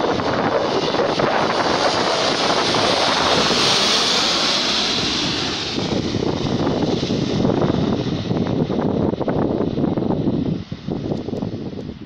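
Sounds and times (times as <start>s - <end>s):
turboprop plane passing overhead: 0.0s - 12.0s.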